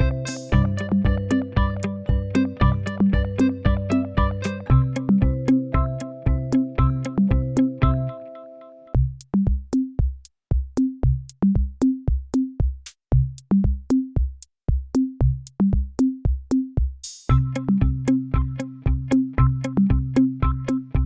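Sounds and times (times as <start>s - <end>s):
drum machine beat: 0.0s - 8.1s, 9.0s - 21.0s.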